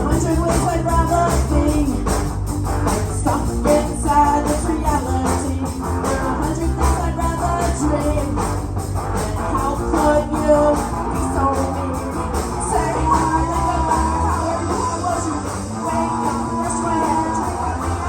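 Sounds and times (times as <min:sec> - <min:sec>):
person singing: 0:00.0 - 0:02.2, 0:02.8 - 0:18.0
live rock band playing: 0:00.0 - 0:18.0.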